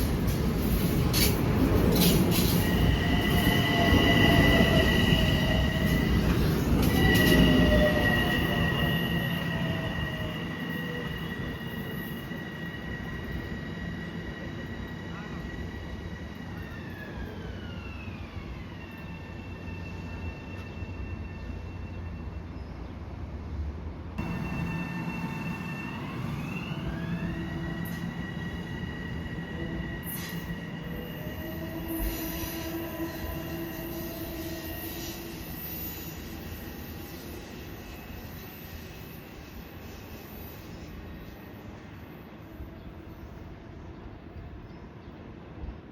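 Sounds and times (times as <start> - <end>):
train rumble: 0.0 - 42.0
high-pitched squeal: 1.9 - 22.4, 24.2 - 42.1.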